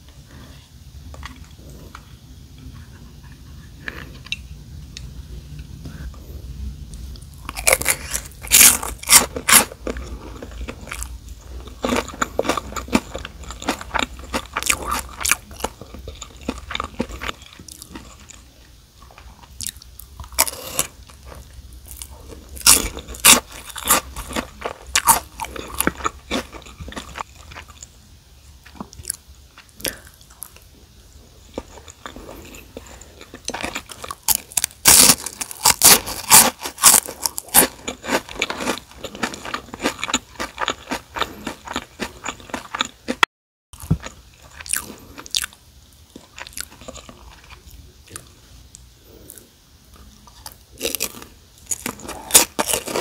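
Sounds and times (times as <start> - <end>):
chewing with crisp crunching: 6.9 - 53.0.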